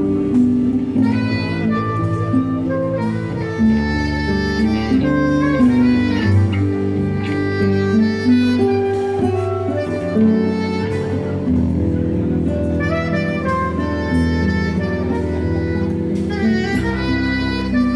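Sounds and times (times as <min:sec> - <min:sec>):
instrumental music: 0:00.0 - 0:17.9.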